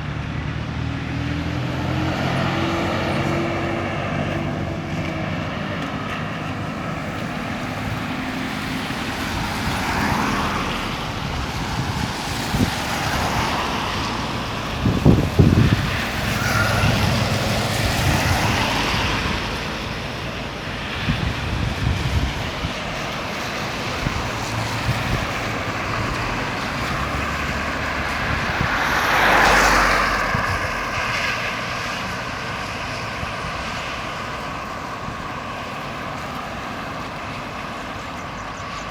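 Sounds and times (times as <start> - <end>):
cars passing: 0.0 - 38.9
loud engine rumbles: 0.0 - 38.9.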